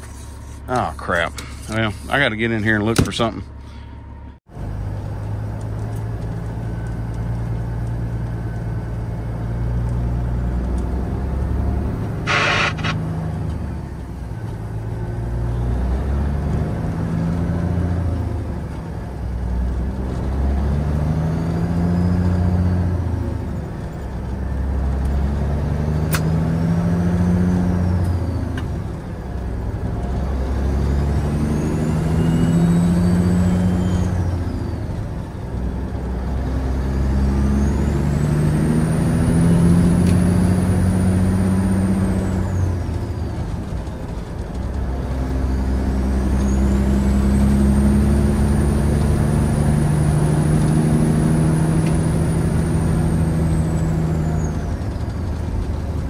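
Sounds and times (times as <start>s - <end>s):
truck diesel engine shifting gears: 0.0s - 56.0s.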